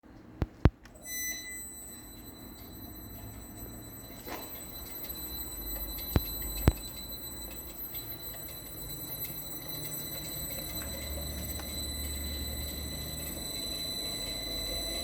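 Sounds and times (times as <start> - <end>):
high-pitched electronic whine: 1.0 - 15.0.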